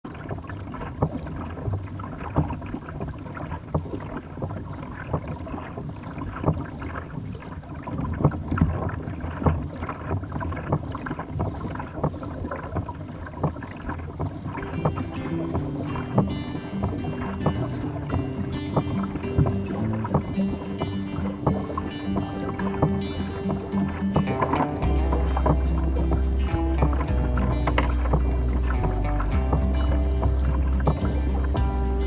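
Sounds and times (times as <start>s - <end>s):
low rumble of water: 0.0s - 32.0s
water lapping against kayak hull: 0.0s - 32.0s
wind: 0.0s - 32.0s.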